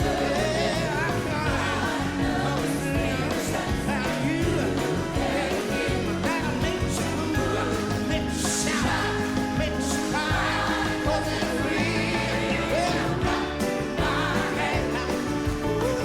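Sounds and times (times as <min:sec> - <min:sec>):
band playing: 0:00.0 - 0:16.0
drum beat: 0:00.0 - 0:16.0
people singing: 0:00.0 - 0:16.0.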